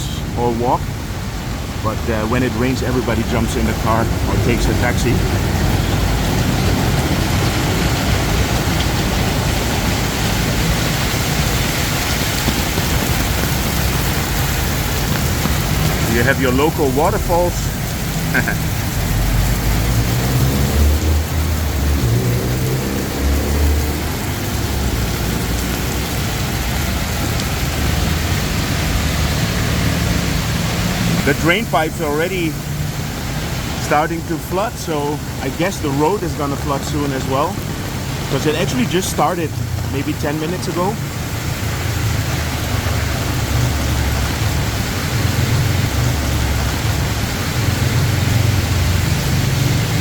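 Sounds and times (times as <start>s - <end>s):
steady rain: 0.0s - 50.0s
traffic engines idling: 0.0s - 50.0s.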